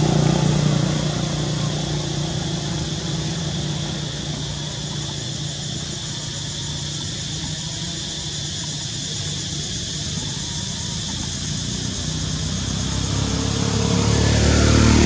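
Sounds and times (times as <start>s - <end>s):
high-pitched hiss: 0.0s - 15.0s
low engine-like hum: 0.0s - 15.0s.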